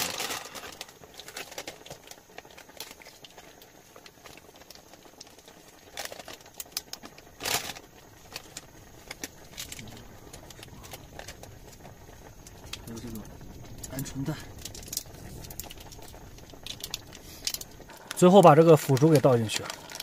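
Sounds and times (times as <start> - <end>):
plastic sachets crinkling: 0.0 - 20.0.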